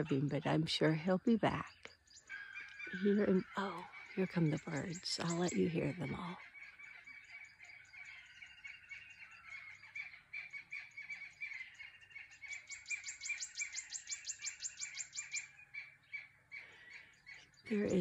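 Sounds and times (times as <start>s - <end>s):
birds calling together: 0.0s - 18.0s.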